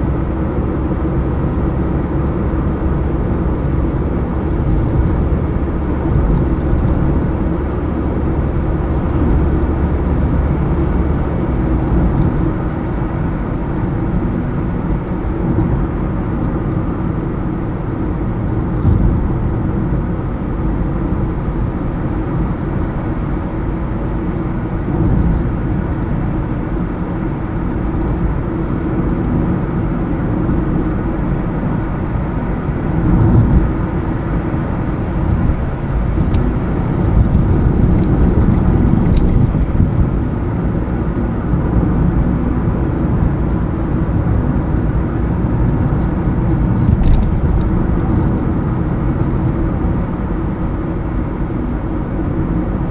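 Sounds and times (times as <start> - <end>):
car engine and tyre noise: 0.0 - 52.9.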